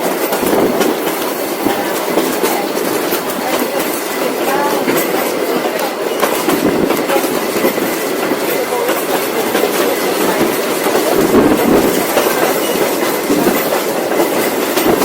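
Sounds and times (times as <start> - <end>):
train carriages rumbling: 0.0 - 15.0
wheels clicking over rail joints: 0.0 - 15.0.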